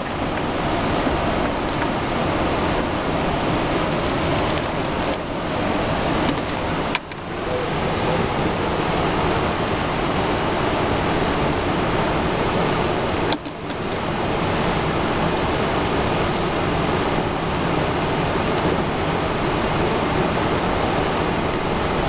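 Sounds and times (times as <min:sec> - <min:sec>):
water rushing through spillway: 0:00.0 - 0:22.0.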